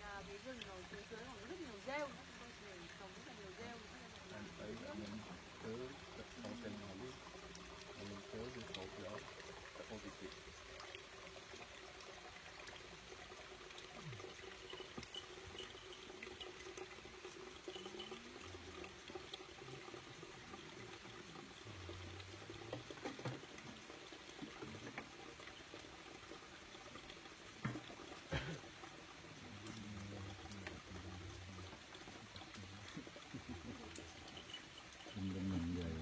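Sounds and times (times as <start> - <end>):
water trickling from watering can: 0.0 - 36.0.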